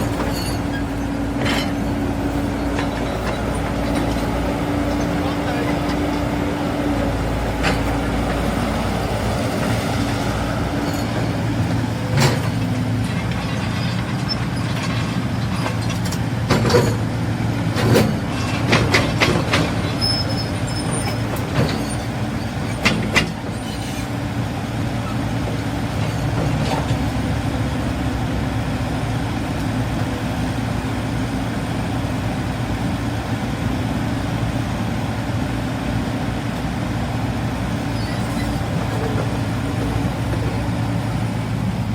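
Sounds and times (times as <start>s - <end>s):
diesel excavator engine running: 0.0s - 41.9s.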